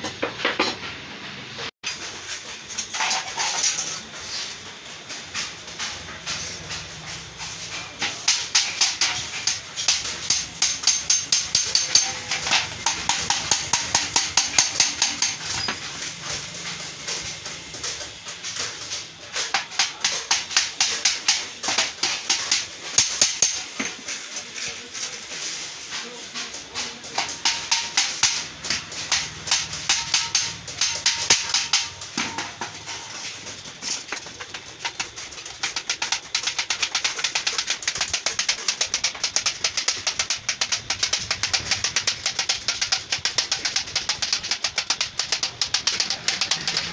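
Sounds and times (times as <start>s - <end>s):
hammer tapping sheet metal: 5.8s - 24.0s, 26.0s - 46.9s.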